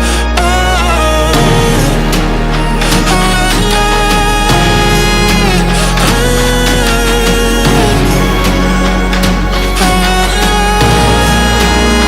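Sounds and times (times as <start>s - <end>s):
electronic background music: 0.0s - 12.0s.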